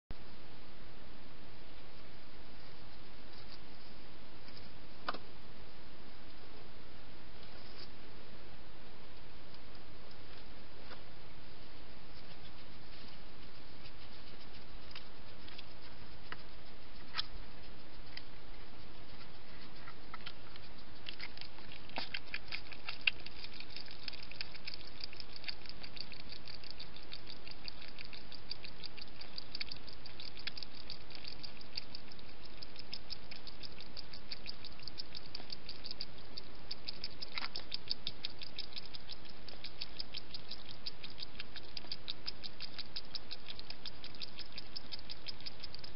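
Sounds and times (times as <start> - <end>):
hedgehog chewing and lapping: 1.8 - 5.2, 11.6 - 45.9.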